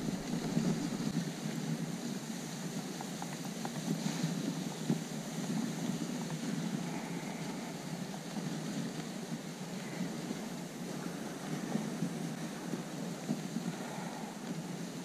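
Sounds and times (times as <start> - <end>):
wind on microphone: 0.0 - 2.9, 3.8 - 15.0
sled runners rushing over snow: 0.0 - 15.0.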